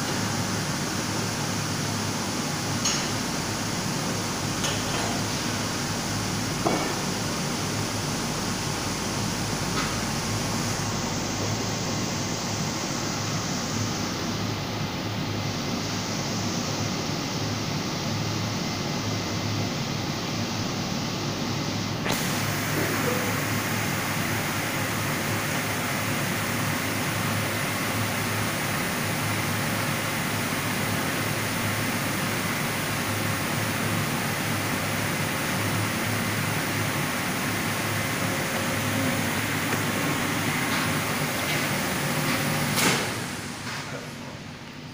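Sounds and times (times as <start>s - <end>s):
wood dryer machine running: 0.0s - 44.9s.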